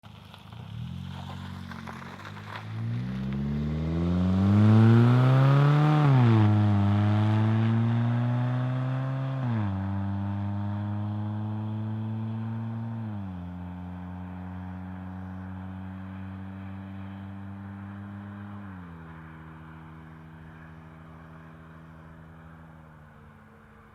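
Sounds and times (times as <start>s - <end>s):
car engine accelerating: 0.4s - 23.9s.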